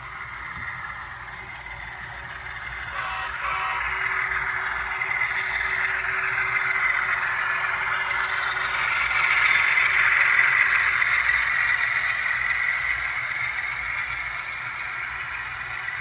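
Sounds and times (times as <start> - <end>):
model train whir and rattle: 0.0 - 16.0.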